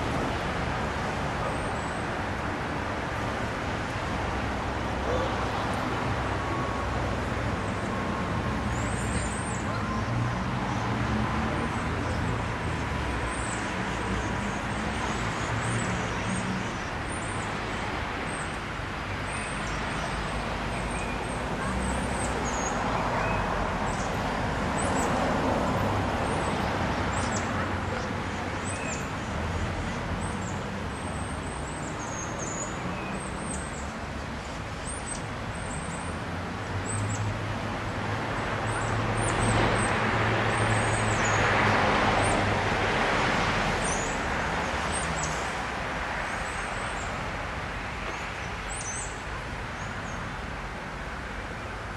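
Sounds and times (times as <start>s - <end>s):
road traffic rumble: 0.0s - 51.9s.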